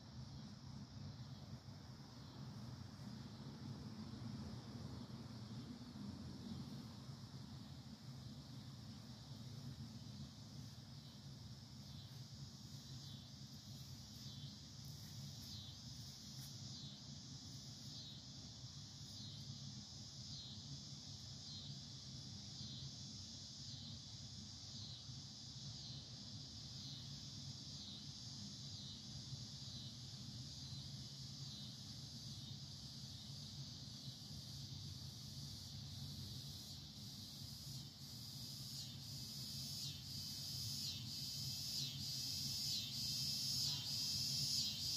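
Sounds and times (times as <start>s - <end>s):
insects chirping: 0.0s - 44.9s.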